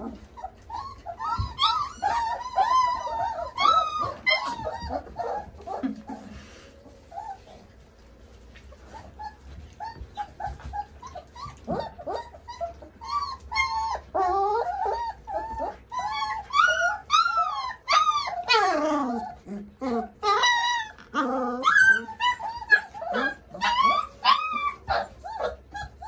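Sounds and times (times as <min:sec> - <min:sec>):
puppies whining and yelping: 0:00.0 - 0:26.0.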